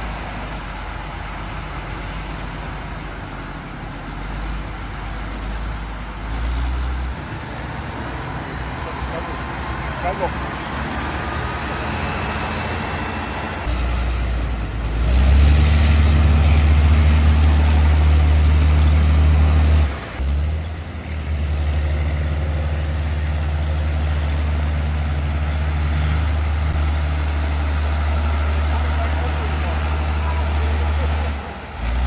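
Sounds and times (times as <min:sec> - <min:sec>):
truck diesel engine droning: 0:00.0 - 0:32.0.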